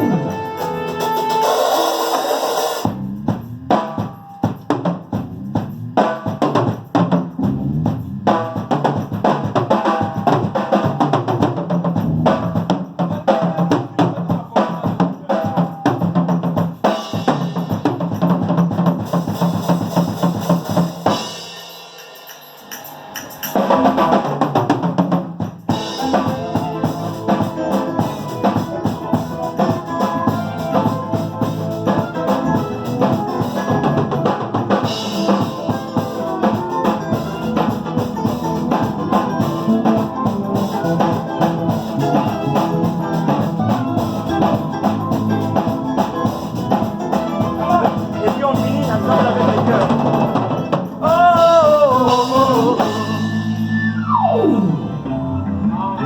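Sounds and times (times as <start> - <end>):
bass line: 0.0 - 1.5, 2.8 - 15.1, 23.6 - 25.1, 25.7 - 56.0
drum kit beat: 0.0 - 55.2.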